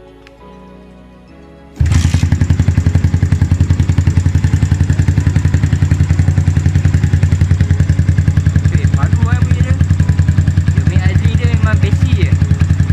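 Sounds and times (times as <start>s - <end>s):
motorcycle engine running: 1.8s - 12.9s.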